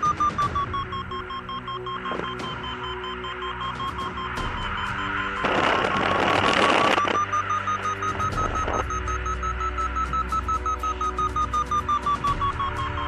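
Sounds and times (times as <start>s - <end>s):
variometer beeping: 0.0s - 13.0s.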